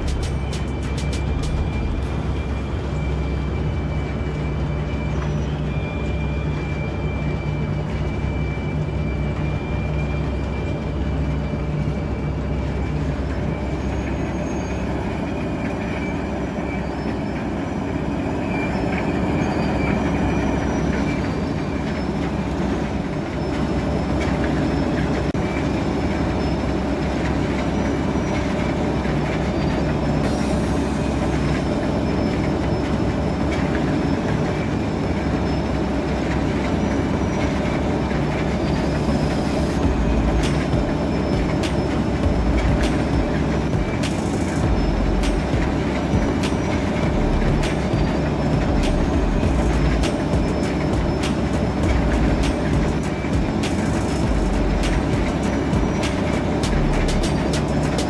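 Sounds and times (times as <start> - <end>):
heavy mechanical rumble: 0.0 - 58.0
thin high whine: 0.0 - 58.0.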